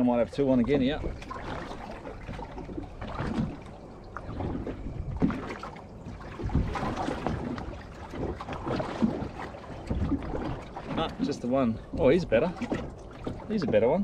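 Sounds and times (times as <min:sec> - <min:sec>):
water slapping against boat hull: 0:00.0 - 0:14.0
wind buffeting microphone: 0:00.0 - 0:14.0.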